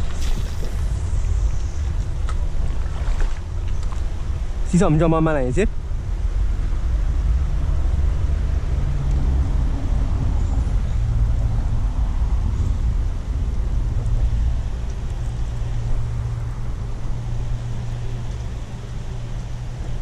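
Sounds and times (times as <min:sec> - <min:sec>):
road traffic rumbling: 0:00.0 - 0:20.0.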